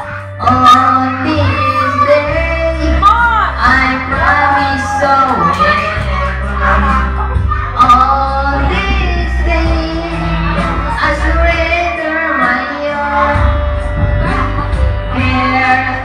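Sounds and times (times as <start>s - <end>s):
music backing track with bass: 0.0s - 16.0s
person singing into a microphone: 0.0s - 16.0s.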